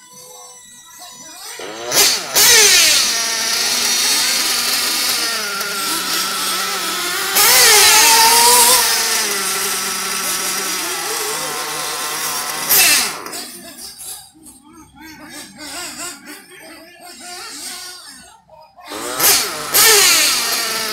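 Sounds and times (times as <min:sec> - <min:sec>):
rc car motor whine: 0:00.0 - 0:14.4, 0:17.1 - 0:20.9.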